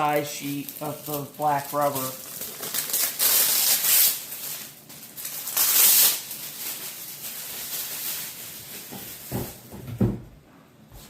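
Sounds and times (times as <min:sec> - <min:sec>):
rubber sheet rustling and crinkling: 0:00.0 - 0:09.7.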